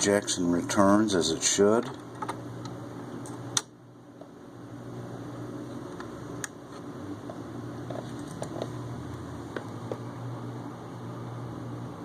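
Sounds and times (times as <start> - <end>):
turntable mechanical hum: 0.0 - 12.0.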